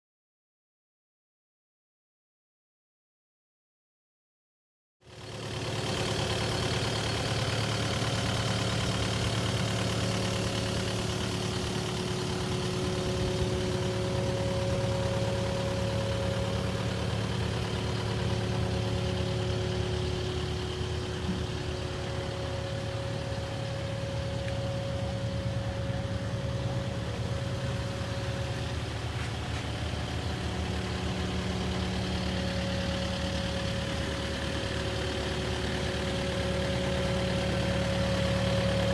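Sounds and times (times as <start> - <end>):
excavator diesel engine idling: 5.1 - 38.9.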